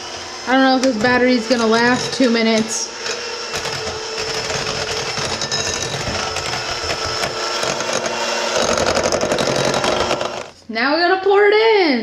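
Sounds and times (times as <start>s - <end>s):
electric hand mixer motor whine: 0.0s - 10.6s
mixer beaters rattling in bowl: 0.5s - 10.6s.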